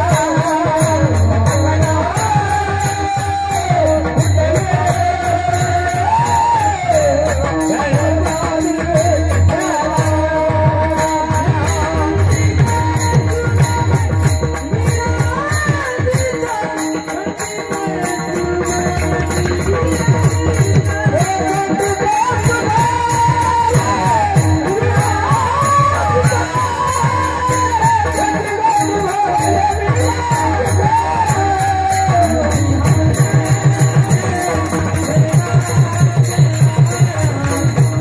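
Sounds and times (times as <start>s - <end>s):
drum beating steady rhythm: 0.0s - 38.0s.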